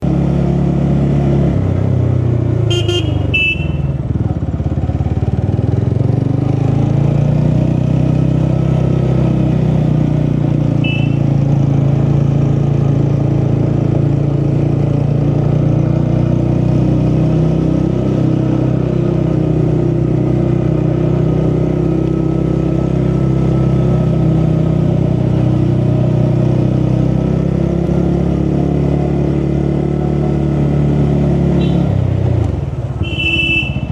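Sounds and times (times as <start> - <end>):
vehicle engine running on road: 0.0 - 33.9.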